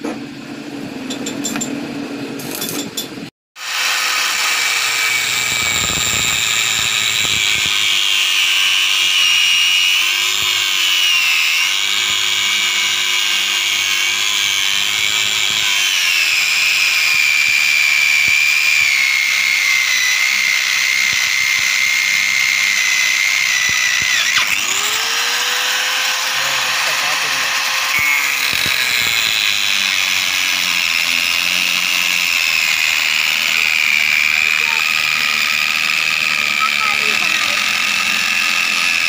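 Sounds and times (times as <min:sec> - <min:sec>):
angle grinder grinding steel: 0:02.4 - 0:39.0.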